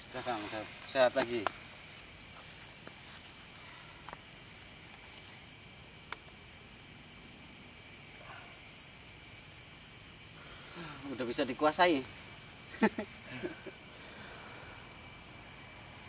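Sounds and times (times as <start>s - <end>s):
crickets and insects chirring: 0.0s - 16.0s.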